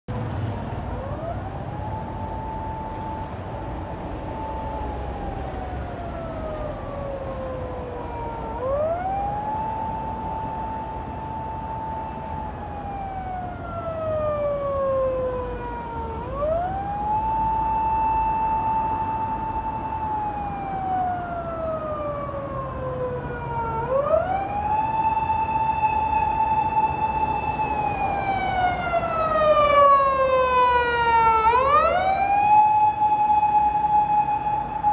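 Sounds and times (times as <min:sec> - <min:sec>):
traffic rumble: 0:00.1 - 0:34.9
siren wailing: 0:00.9 - 0:34.9.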